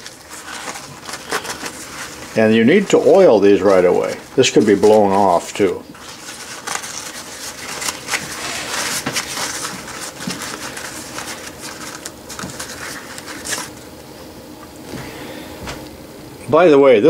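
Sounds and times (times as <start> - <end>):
paper towels rustling: 0.0 - 15.8.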